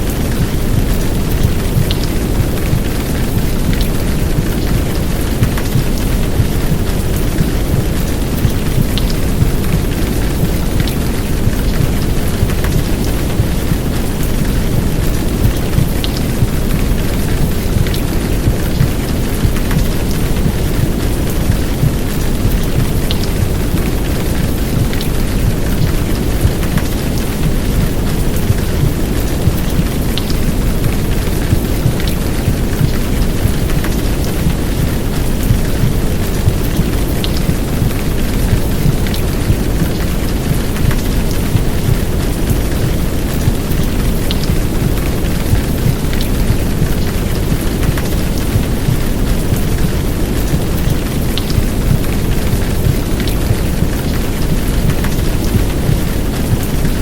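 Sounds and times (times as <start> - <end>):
heavy rain downpour: 0.0 - 57.0
low white noise rumble: 0.0 - 57.0.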